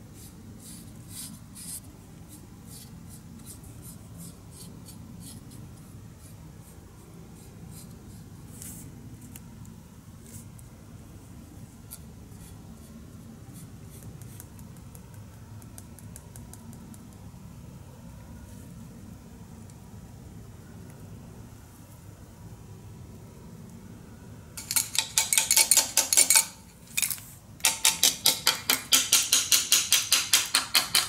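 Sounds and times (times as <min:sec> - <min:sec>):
low steady hum: 0:00.0 - 0:28.3.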